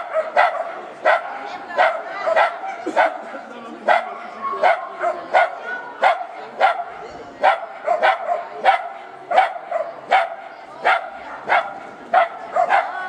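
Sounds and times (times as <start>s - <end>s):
dog barking: 0.0s - 3.2s, 3.9s - 13.0s.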